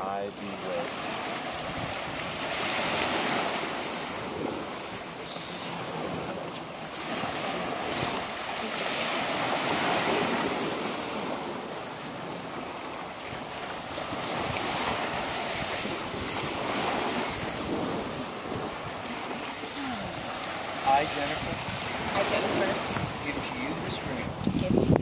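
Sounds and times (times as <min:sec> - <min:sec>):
waves washing onto beach: 0:00.0 - 0:25.0
wind on microphone: 0:00.0 - 0:25.0.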